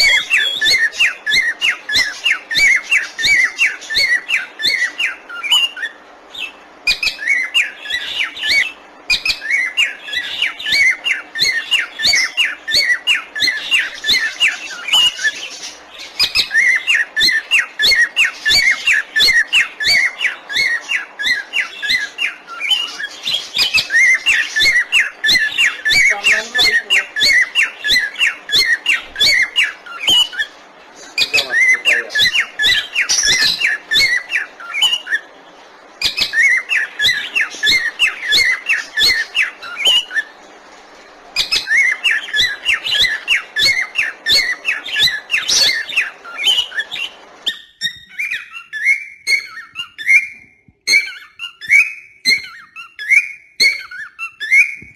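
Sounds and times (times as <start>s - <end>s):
parrots chattering: 0.0s - 54.9s.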